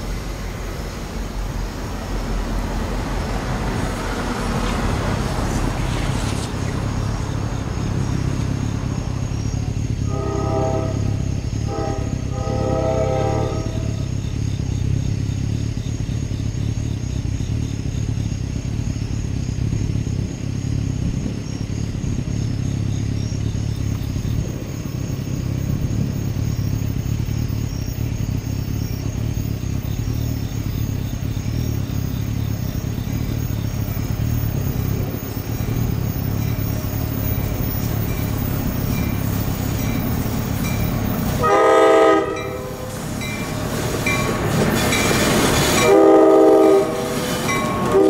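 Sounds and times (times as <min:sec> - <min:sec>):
insects chirping: 0:00.0 - 0:48.0
train rumbling: 0:00.0 - 0:48.0.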